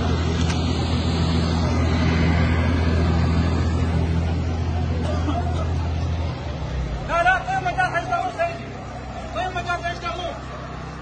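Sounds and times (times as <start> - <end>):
low engine-like drone: 0.0 - 11.0
outdoor noise: 0.0 - 11.0.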